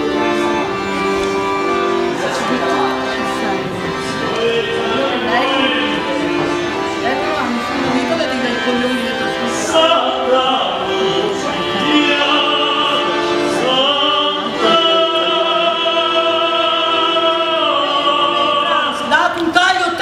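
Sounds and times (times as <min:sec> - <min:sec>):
operatic singing with vibrato: 0:00.0 - 0:20.0.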